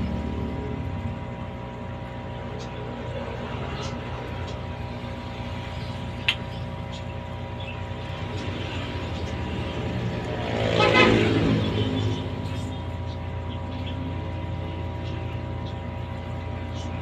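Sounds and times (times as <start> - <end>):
machine hum: 0.0 - 17.0
vehicle motor passing: 2.9 - 17.0.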